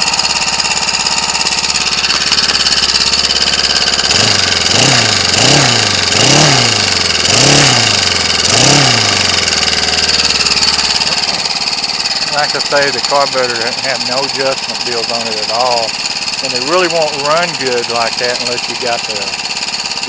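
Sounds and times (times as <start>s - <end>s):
trimmer engine running: 0.0s - 20.0s.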